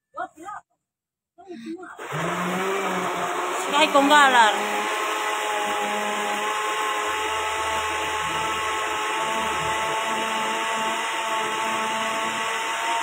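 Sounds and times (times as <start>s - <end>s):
small motor whining: 2.0s - 13.0s.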